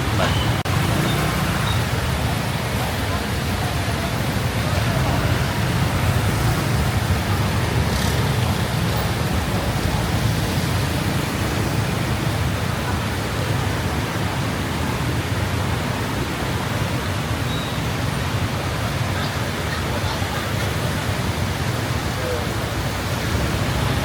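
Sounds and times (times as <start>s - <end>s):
heavy rain and wind rushing: 0.0s - 24.0s.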